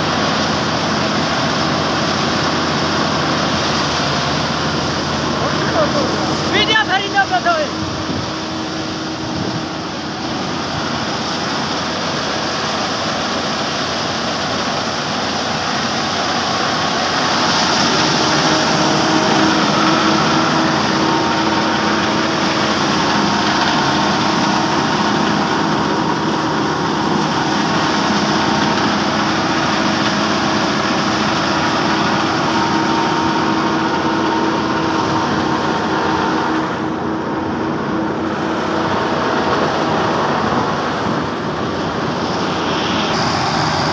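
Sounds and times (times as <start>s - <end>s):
thresher whirring and rattling: 0.0s - 43.9s
tractor diesel engine drone: 0.0s - 43.9s.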